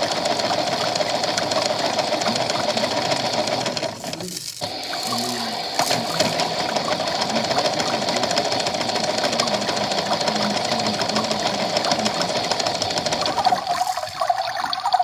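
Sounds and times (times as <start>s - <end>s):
washing machine clattering: 0.0s - 15.0s.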